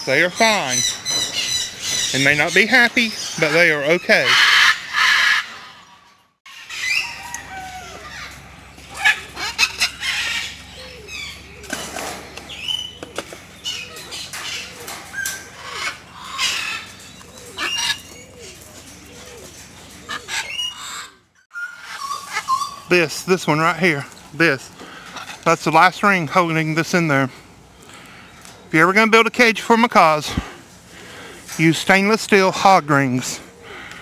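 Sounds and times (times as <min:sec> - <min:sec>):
macaws squawking: 0:00.0 - 0:34.0.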